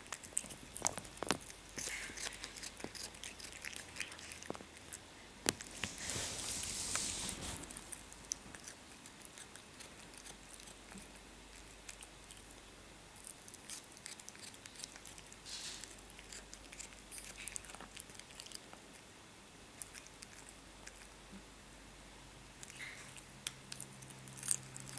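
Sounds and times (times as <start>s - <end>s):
cat crunching cucumber: 0.0s - 19.1s, 19.7s - 21.2s, 22.5s - 24.9s.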